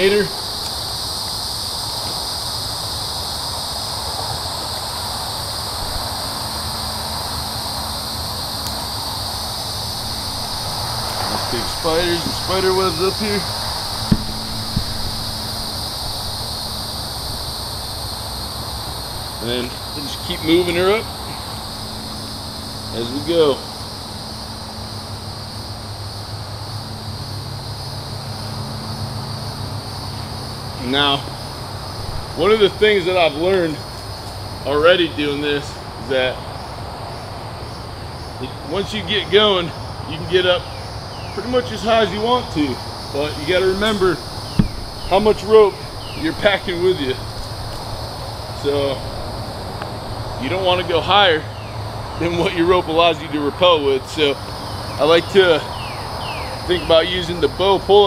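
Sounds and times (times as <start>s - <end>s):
insect chorus drone: 0.0s - 58.0s
steady low hum: 0.0s - 58.0s.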